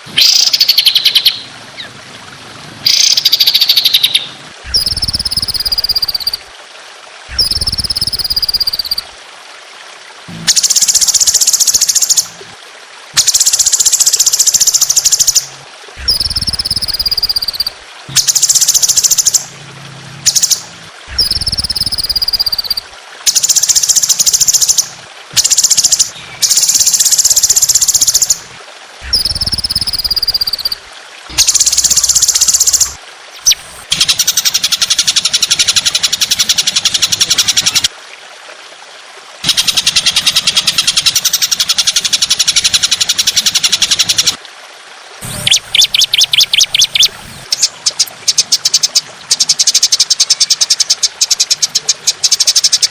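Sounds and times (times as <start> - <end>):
songbird chattering and buzzing: 0.2 - 1.9, 2.8 - 6.4, 7.3 - 9.1, 13.2 - 19.6, 20.2 - 28.4, 29.0 - 37.9, 39.4 - 44.4, 45.2 - 52.9.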